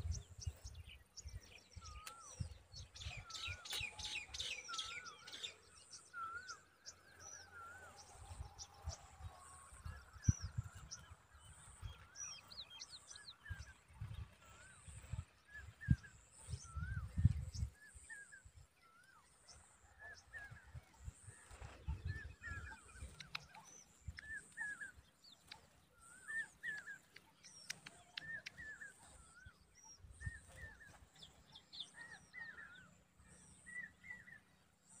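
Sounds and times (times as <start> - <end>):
bird chirping: 0.0 - 35.0.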